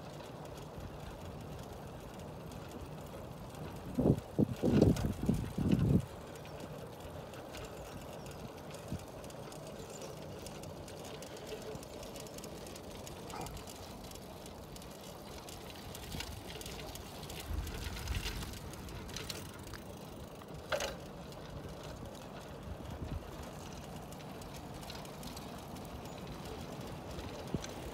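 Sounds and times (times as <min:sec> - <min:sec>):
bicycle rolling on pavement: 0:00.0 - 0:27.9
bike rattling clicks and knocks: 0:00.0 - 0:27.9.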